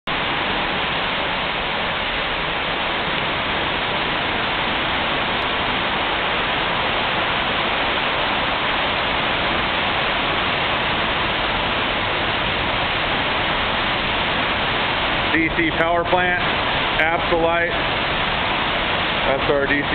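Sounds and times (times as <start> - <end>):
air conditioning airflow: 0.1 - 19.9
equipment fans: 0.1 - 19.9.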